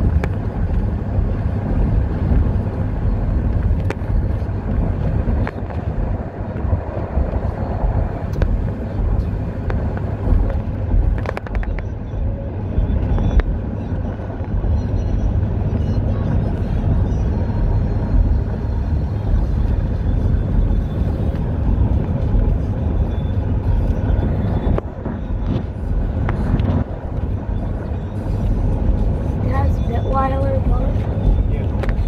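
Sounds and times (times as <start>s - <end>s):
car road noise at speed: 0.0s - 32.0s
wind on microphone: 0.0s - 32.0s.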